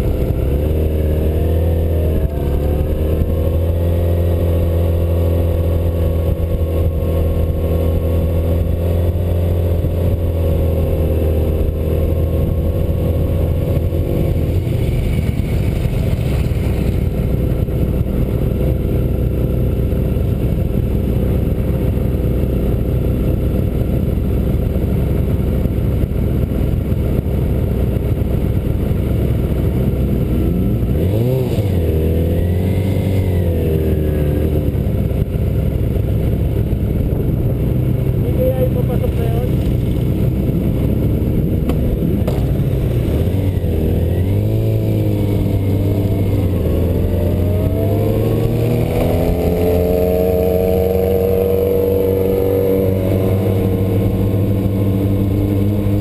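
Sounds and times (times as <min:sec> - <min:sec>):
motorcycle engine revving: 0:00.0 - 0:56.0
motorcycle engine running: 0:00.0 - 0:56.0.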